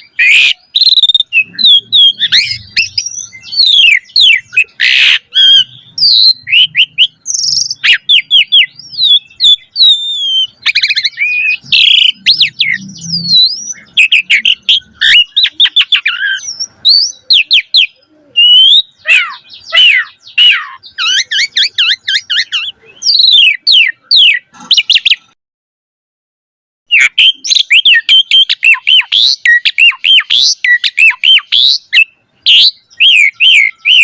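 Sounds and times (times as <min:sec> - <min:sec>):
starling singing whistles and chirps: 0:00.0 - 0:25.4, 0:26.9 - 0:34.0.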